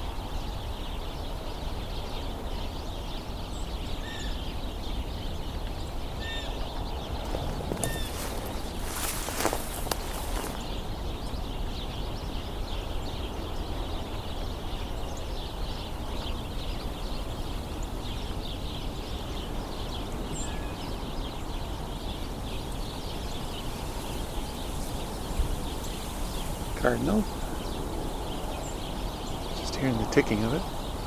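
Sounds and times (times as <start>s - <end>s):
sparrows chirping: 0.0s - 31.0s.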